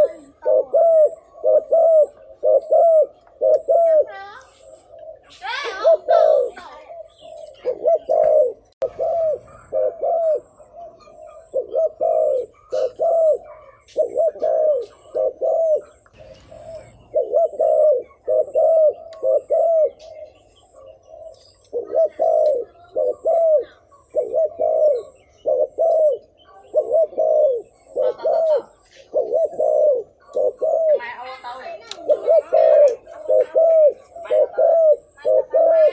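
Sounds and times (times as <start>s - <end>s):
dove cooing: 0.0s - 35.9s.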